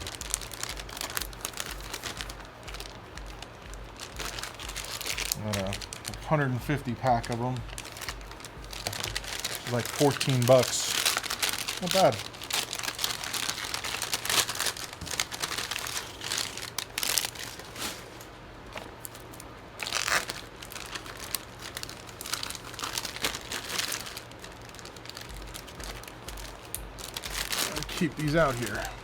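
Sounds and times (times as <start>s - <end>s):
packaging crinkling and rustling: 0.0s - 29.0s.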